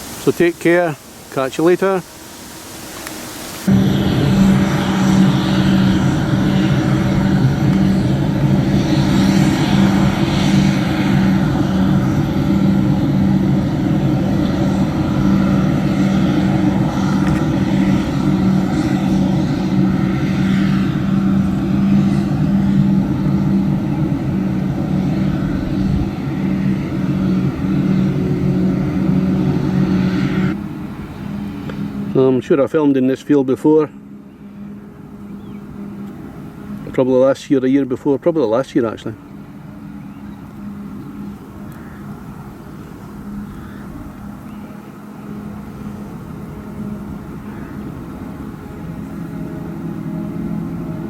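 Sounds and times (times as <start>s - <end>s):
engine droning steadily: 0.0s - 51.0s.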